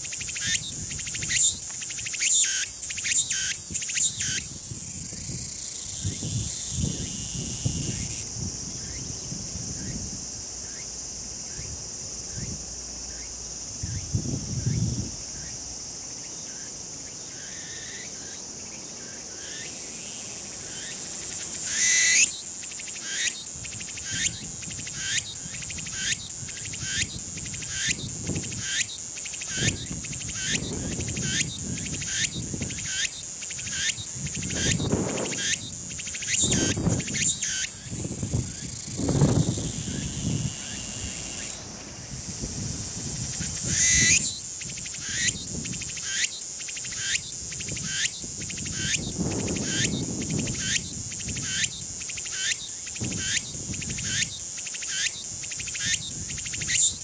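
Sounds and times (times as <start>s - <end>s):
cicada buzzing song: 0.0s - 57.0s.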